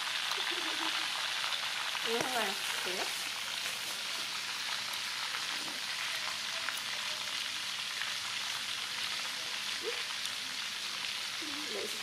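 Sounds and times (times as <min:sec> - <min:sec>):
faint oil crackles: 0:00.0 - 0:12.0
frying in hot oil sizzle: 0:00.0 - 0:12.0.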